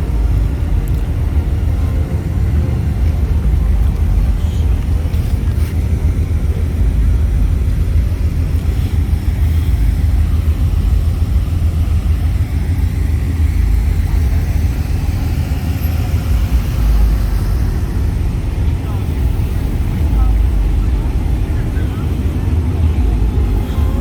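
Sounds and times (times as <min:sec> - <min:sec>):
car rumbling on the move: 0:00.0 - 0:24.0.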